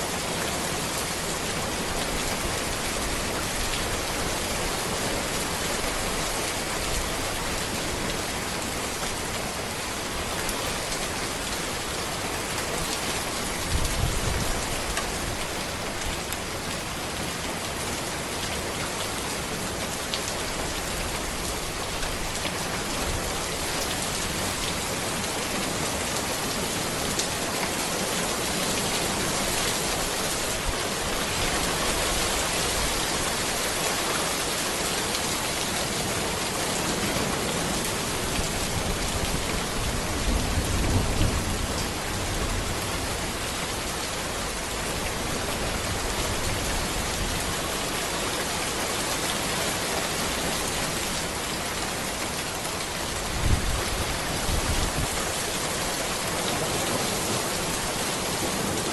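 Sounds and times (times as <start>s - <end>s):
rain falling on road: 0.0s - 58.9s.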